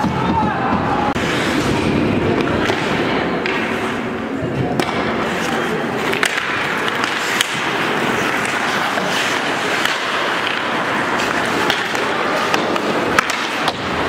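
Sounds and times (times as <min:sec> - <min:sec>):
hockey sticks clacking on puck: 0:00.0 - 0:14.0
skates scraping on ice: 0:00.0 - 0:14.0.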